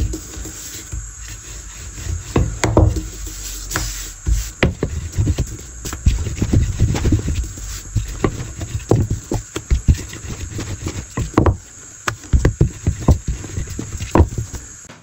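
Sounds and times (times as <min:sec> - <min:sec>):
rolling pin thumping on work surface: 0:02.0 - 0:15.0.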